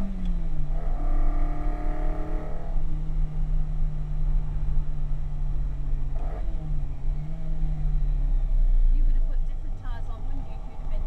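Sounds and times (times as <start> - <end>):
car engine running: 0.0 - 11.0
low road rumble: 0.0 - 11.0.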